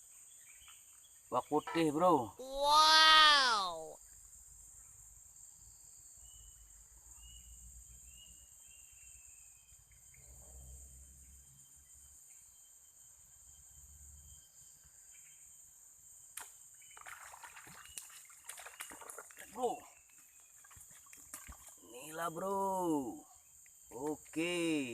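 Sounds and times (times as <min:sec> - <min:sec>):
insects droning: 0:00.0 - 0:24.9.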